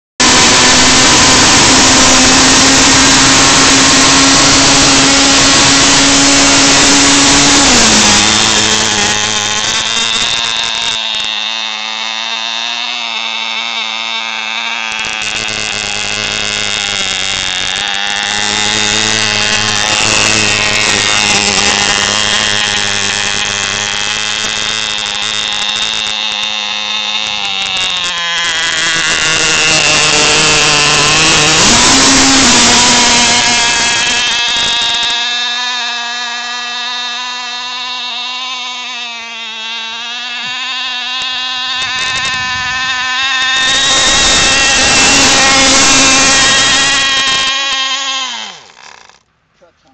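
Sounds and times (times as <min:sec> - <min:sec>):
toy engine high buzz: 0:00.0 - 0:49.3.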